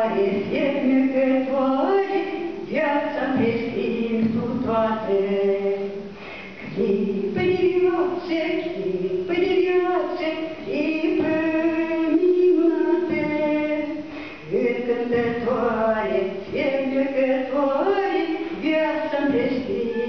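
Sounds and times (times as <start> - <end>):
woman singing into a microphone: 0.0 - 20.0.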